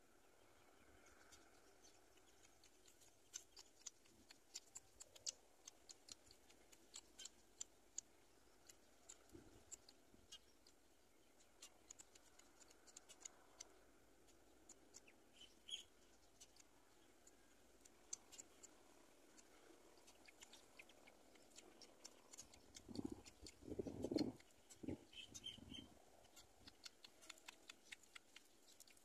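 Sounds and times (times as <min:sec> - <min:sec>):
faint clicks: 0:01.0 - 0:29.0.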